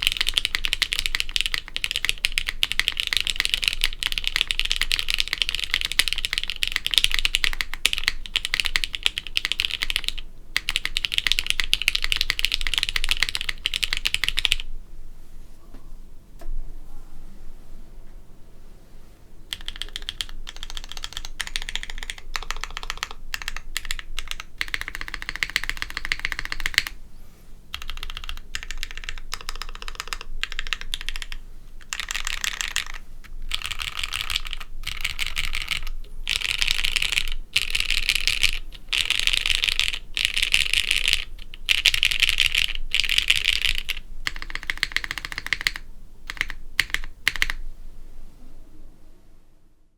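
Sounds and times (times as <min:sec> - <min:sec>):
fast typing on mechanical keyboard: 0:00.0 - 0:14.7, 0:19.5 - 0:27.0, 0:27.7 - 0:47.6.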